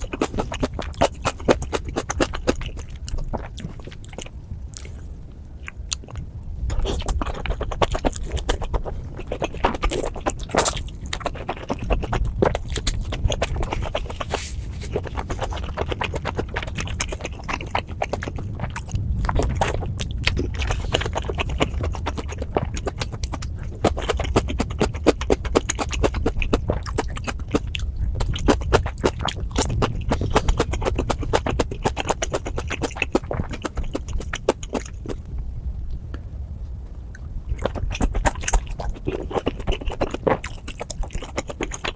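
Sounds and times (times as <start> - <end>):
chewing with mouth clicks: 0.0 - 36.2, 37.1 - 41.9
low rumble: 0.0 - 41.8.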